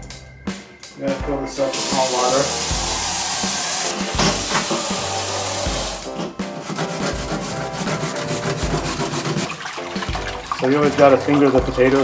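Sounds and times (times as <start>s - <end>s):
background music with a beat: 0.0s - 12.0s
tap running water: 1.6s - 12.0s.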